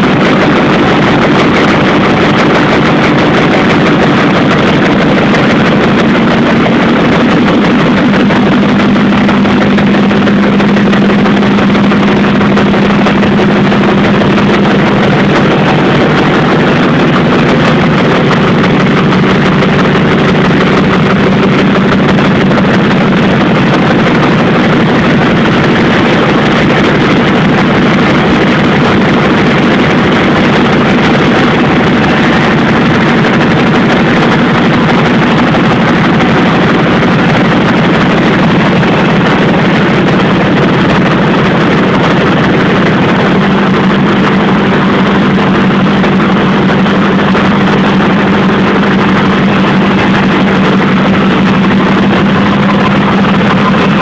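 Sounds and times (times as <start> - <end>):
printing press running: 0.0 - 54.0
steady low hum: 0.0 - 54.0.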